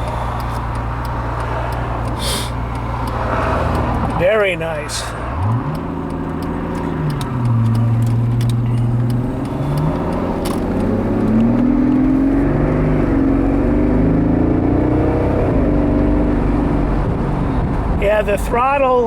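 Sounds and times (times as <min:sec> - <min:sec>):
car engine heard from cabin: 0:00.0 - 0:19.0.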